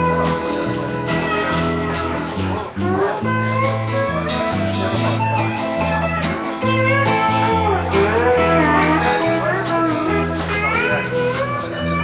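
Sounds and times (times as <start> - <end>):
bass line: 0.0 - 12.0
guitar-led instrumental song: 0.0 - 12.0.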